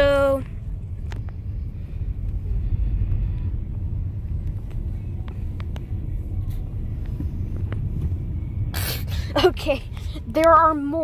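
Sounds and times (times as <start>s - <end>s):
low rumble inside car cabin: 0.0s - 11.0s.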